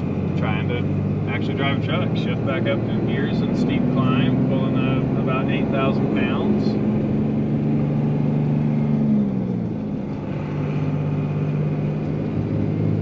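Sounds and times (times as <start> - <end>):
diesel engine pulling under load: 0.0 - 13.0.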